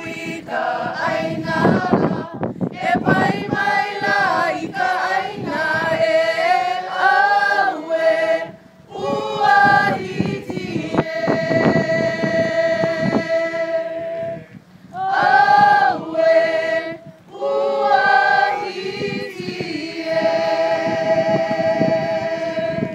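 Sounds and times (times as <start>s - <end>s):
group singing unaccompanied: 0.0s - 22.9s.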